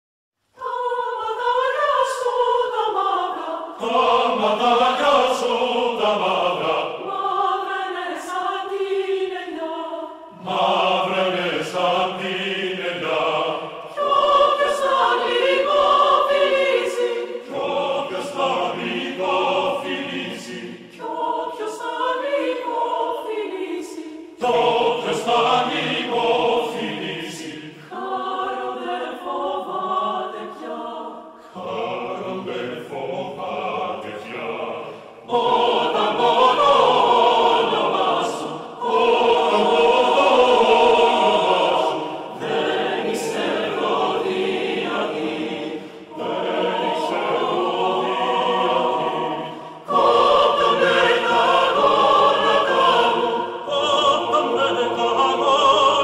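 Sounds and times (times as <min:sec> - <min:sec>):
choir singing a cappella: 0:00.4 - 0:56.0.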